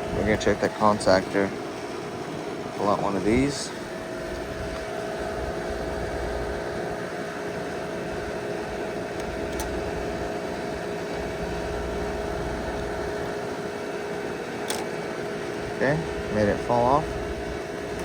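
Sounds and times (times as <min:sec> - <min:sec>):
air conditioner unit humming: 0:00.0 - 0:18.0.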